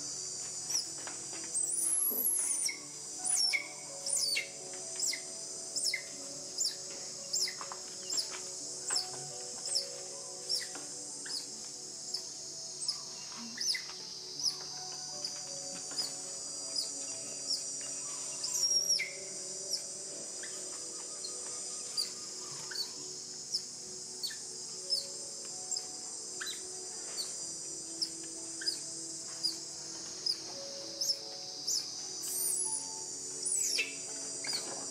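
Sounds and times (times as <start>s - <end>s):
bird chirping: 0.0s - 34.9s
high insect hiss: 0.0s - 34.9s.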